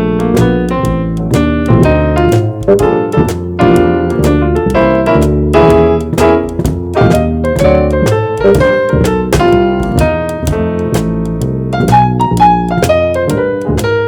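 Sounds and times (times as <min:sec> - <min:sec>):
bass notes: 0:00.0 - 0:14.0.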